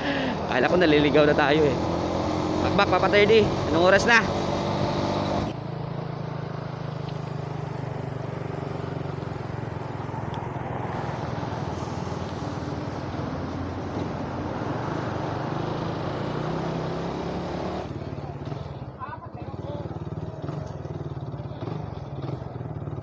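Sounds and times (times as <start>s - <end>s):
wind and road noise: 0.0s - 19.1s
motorcycle engine running: 0.0s - 23.0s.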